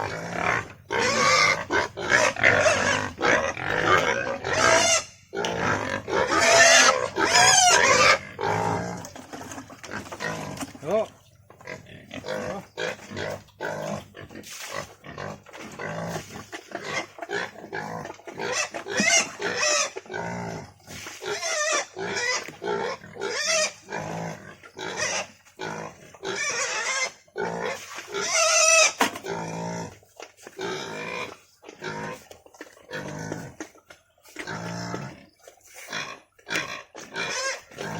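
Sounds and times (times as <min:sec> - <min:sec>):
pigs squealing: 0:00.0 - 0:30.0, 0:30.6 - 0:37.9
pigs grunting: 0:00.0 - 0:37.9.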